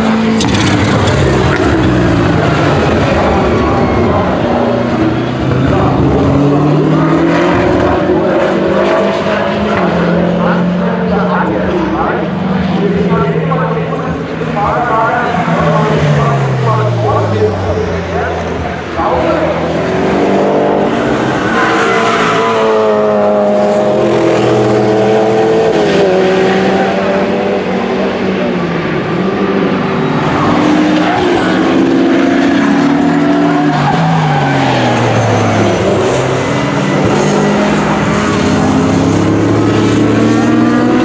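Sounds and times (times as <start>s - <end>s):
racing cars passing: 0.0s - 41.0s.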